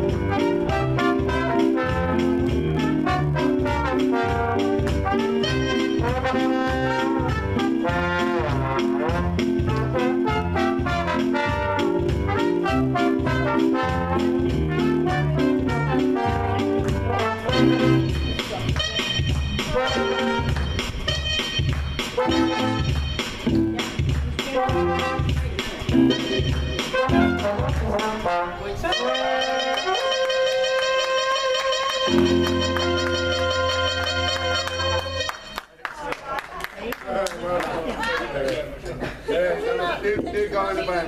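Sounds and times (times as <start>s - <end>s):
rhythm section beat: 0.0s - 35.6s
brass section playing: 0.0s - 35.7s.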